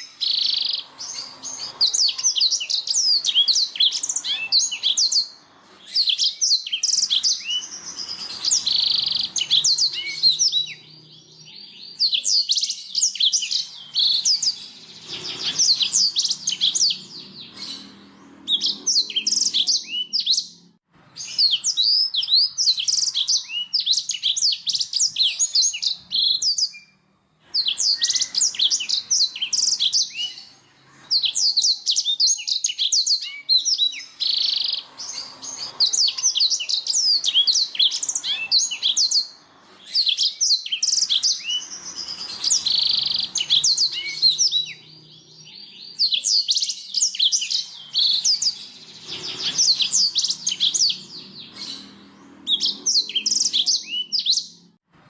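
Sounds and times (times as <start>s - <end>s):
canary singing: 0.0s - 54.8s.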